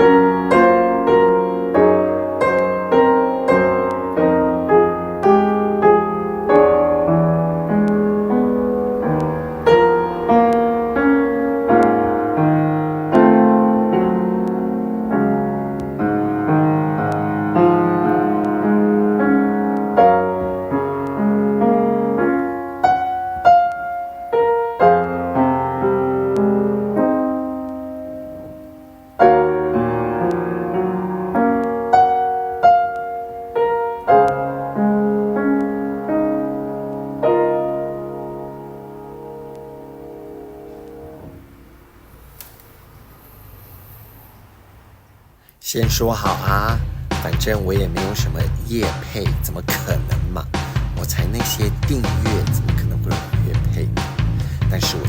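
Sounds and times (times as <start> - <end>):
solo piano melody: 0.0 - 45.4.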